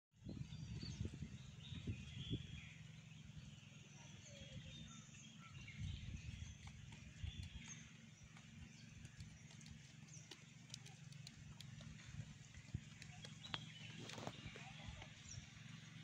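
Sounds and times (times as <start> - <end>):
low rumble on microphone: 0.2 - 16.0
small birds chirping: 0.2 - 16.0.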